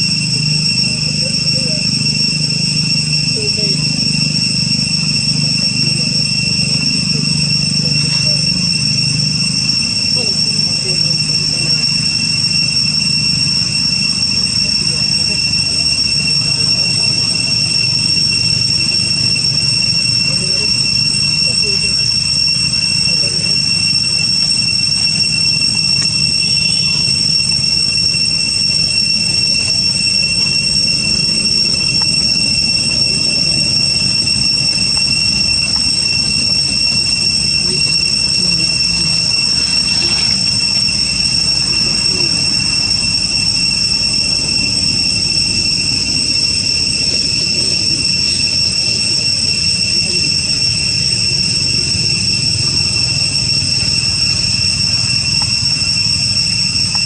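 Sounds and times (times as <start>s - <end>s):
constant low rumble: 0.0s - 57.0s
steady high-pitched whine: 0.0s - 57.0s.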